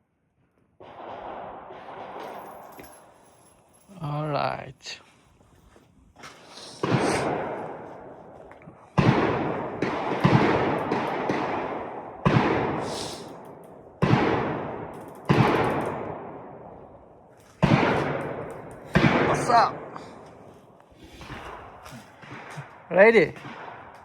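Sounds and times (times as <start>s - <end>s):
gunshots with echo: 0.8s - 3.2s, 6.7s - 24.0s.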